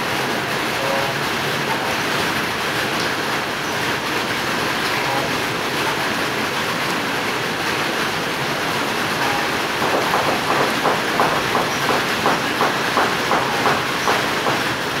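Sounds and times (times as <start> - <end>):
light rain on roofs: 0.0 - 15.0.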